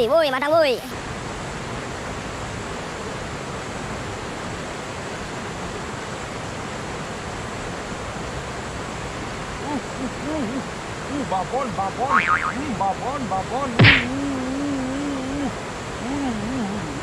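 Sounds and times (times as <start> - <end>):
river rushing: 1.0 - 14.5, 15.1 - 16.0.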